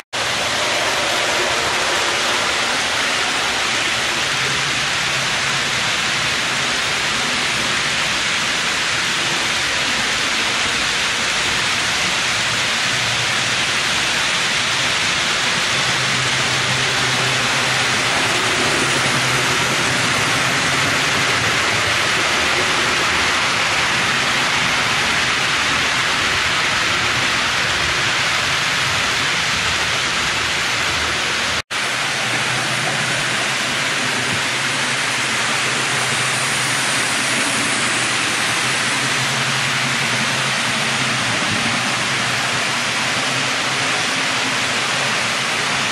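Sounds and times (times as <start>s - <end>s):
model trains rolling: 0.2s - 45.9s.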